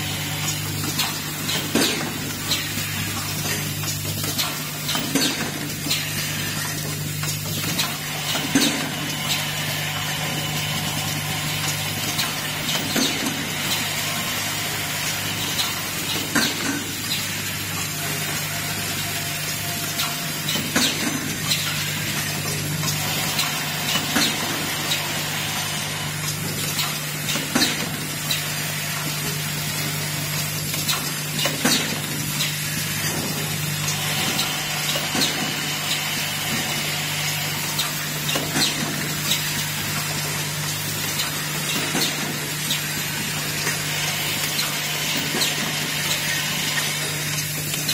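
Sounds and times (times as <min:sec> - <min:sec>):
machine hum and hiss: 0:00.0 - 0:47.9
pneumatic cylinder clacks: 0:00.2 - 0:47.9.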